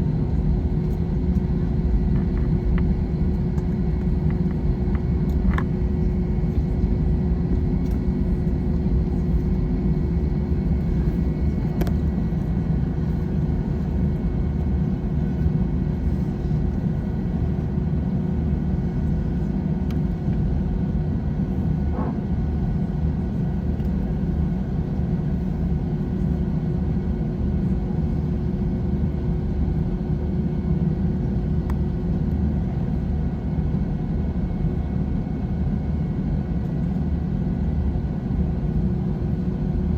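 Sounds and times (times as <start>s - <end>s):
jet engines running low power: 0.0s - 39.9s.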